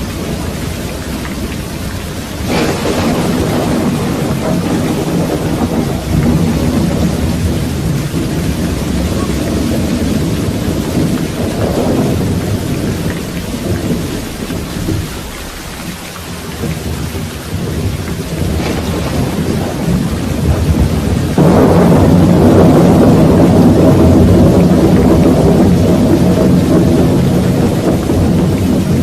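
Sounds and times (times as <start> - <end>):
steady rain: 0.0 - 29.0
thunder rumbling: 0.0 - 29.0.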